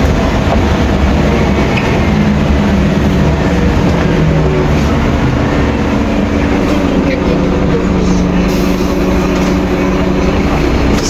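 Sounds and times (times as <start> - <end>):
bus diesel engine: 0.0 - 11.0
road noise: 0.0 - 11.0.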